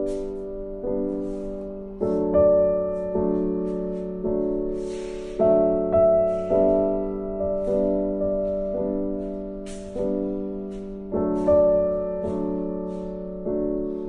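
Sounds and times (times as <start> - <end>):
slow gentle piano chords: 0.0 - 14.0.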